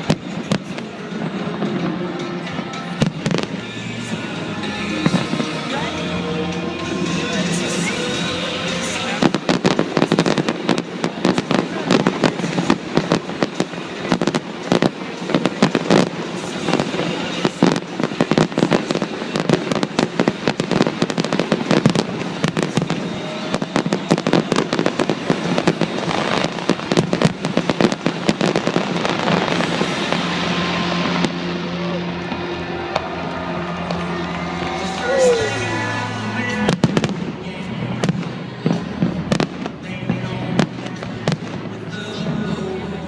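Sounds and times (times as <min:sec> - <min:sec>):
fireworks bangs and crackling: 0:00.0 - 0:43.0
music: 0:00.0 - 0:43.0.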